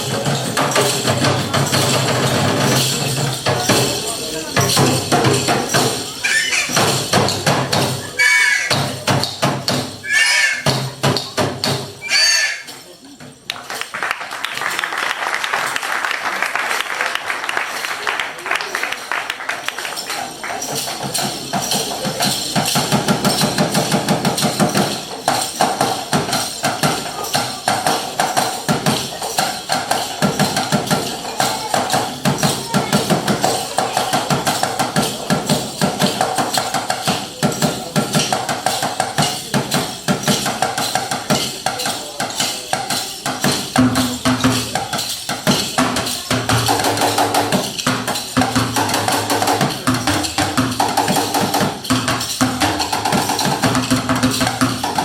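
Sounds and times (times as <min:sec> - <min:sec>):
fast percussion knocking and clicking: 0:00.0 - 0:14.3, 0:18.8 - 0:55.0.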